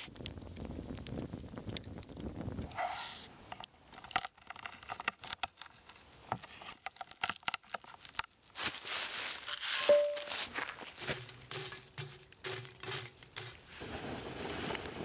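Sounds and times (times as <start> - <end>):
wood fire crackling and popping: 0.0 - 2.8, 3.4 - 8.6, 10.4 - 15.0.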